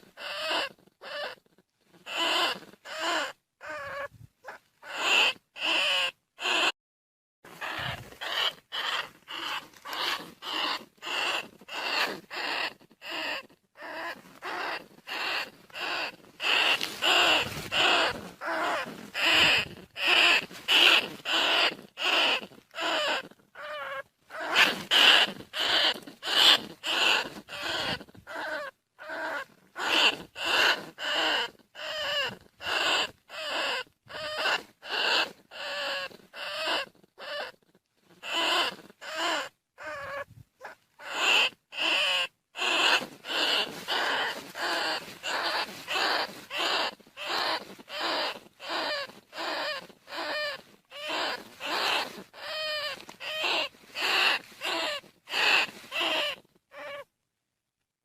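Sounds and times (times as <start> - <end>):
rat squeaking calls: 0.0 - 6.7, 7.5 - 57.1.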